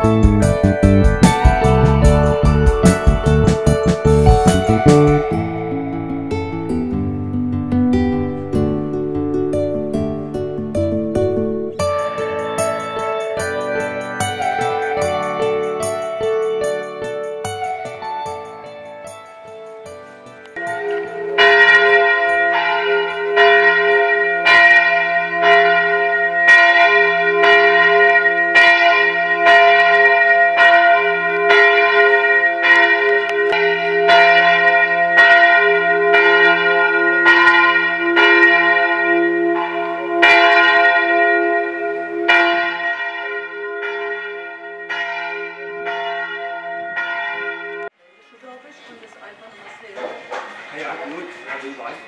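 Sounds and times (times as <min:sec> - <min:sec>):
church bell ringing: 0:00.0 - 0:07.1, 0:08.0 - 0:48.8, 0:50.8 - 0:52.0.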